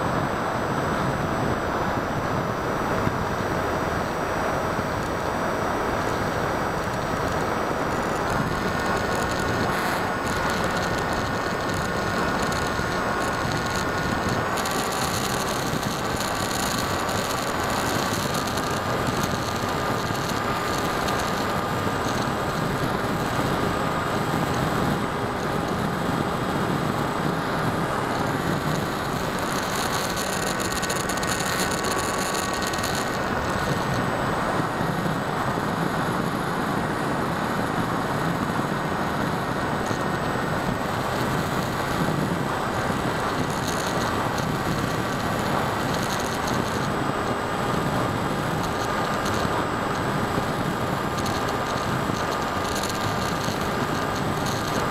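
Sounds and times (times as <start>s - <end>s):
electric motor and propeller whine: 0.0s - 54.9s.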